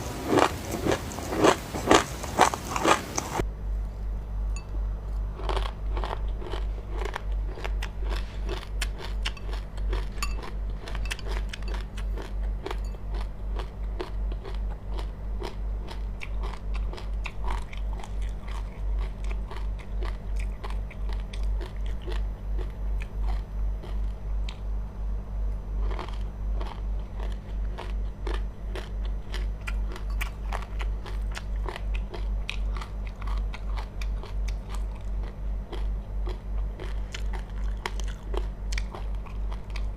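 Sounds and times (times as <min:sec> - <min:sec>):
person chewing crunchy seeds: 0:00.0 - 0:03.5, 0:05.0 - 0:24.7, 0:25.7 - 0:39.9
steady low hum: 0:00.0 - 0:39.9.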